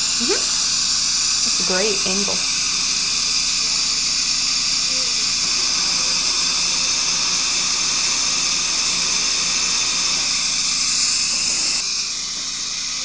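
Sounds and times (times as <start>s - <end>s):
dental drill: 0.0s - 13.0s
surgical suction hissing: 0.0s - 13.0s.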